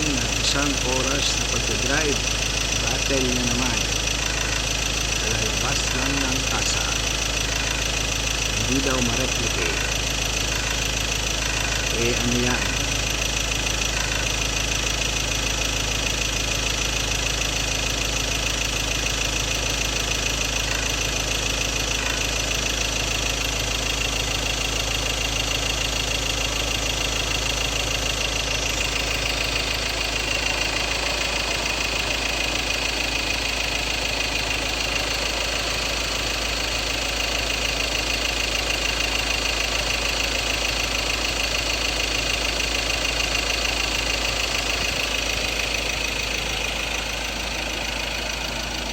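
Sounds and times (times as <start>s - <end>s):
diesel engine knocking: 0.0s - 48.9s.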